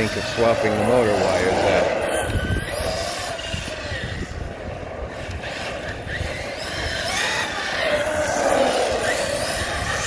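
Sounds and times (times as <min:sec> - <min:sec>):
electric motor whining: 0:00.0 - 0:10.0
steady rushing noise: 0:00.0 - 0:10.0.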